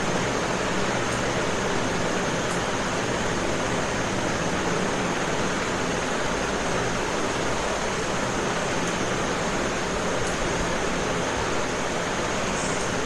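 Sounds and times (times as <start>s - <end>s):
steady white noise hiss: 0.0s - 13.0s.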